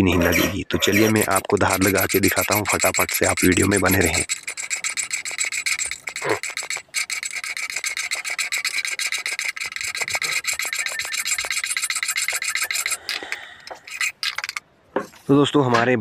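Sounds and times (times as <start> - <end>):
file rasping on steel blade: 0.3 - 14.6.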